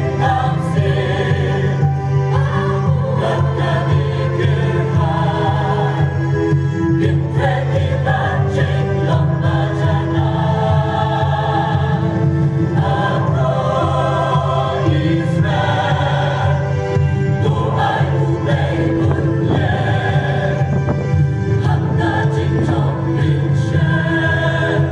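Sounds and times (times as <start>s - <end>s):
mixed choir singing: 0.0s - 24.9s.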